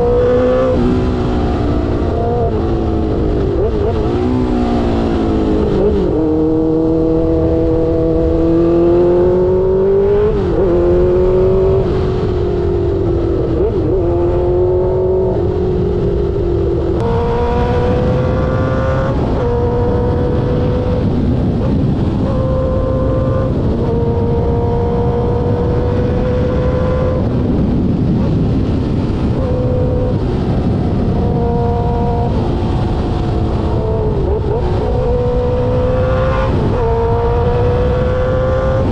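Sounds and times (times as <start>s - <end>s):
motorcycle engine accelerating: 0.0s - 38.9s
wind rushing: 0.0s - 38.9s.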